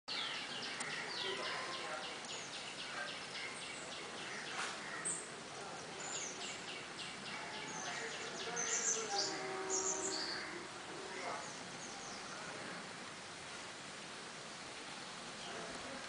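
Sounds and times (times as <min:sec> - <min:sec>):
outdoor hiss: 0:00.1 - 0:16.0.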